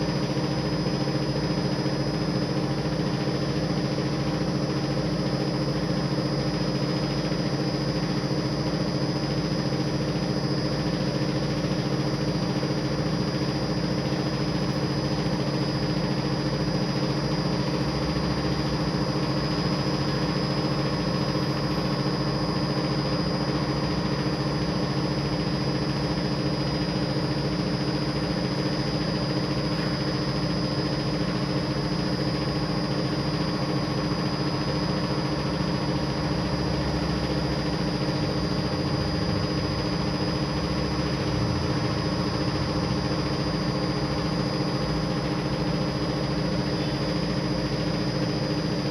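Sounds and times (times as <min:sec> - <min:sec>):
engine running steadily: 0:00.0 - 0:48.9.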